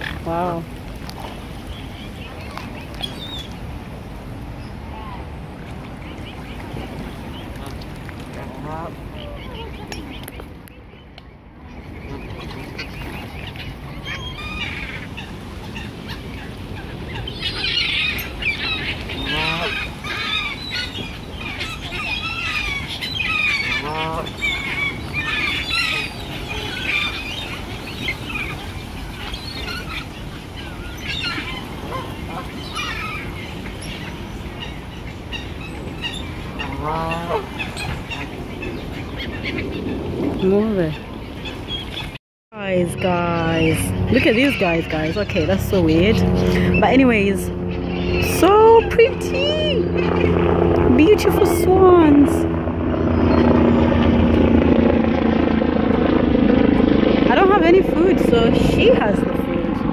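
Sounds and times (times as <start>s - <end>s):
waterbirds calling: 0.0s - 59.9s.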